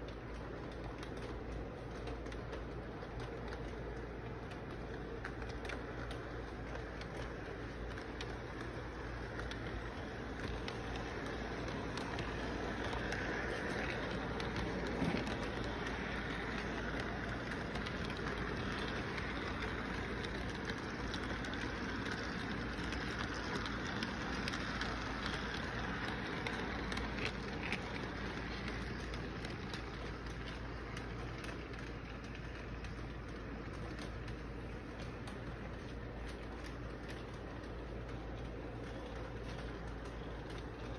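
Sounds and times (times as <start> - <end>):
model train wheels rumbling: 0.0 - 40.9.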